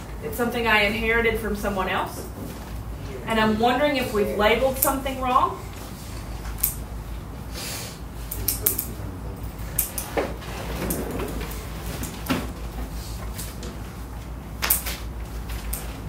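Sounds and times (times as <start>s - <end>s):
steady low hum: 0.0s - 16.0s
faint low murmur: 0.2s - 13.9s.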